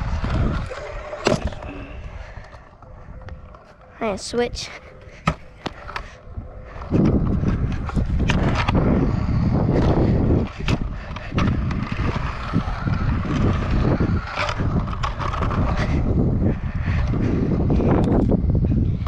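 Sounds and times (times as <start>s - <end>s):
scooter wheels rumbling on concrete: 0.0s - 19.0s.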